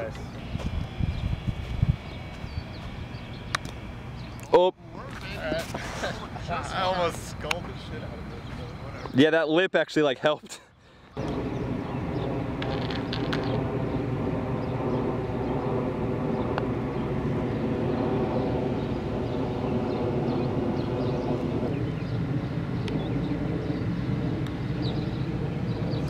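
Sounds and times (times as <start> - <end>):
large engine drone: 0.0 - 9.0, 11.2 - 26.0.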